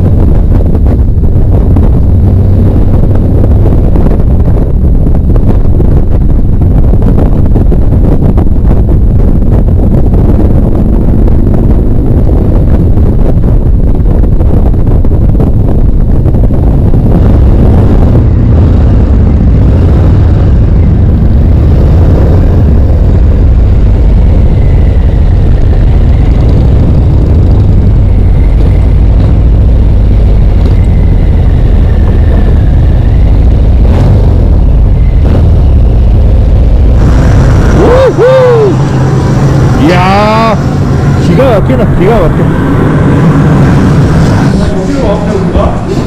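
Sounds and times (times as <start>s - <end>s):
motorcycle engine rumbling: 0.0s - 46.0s.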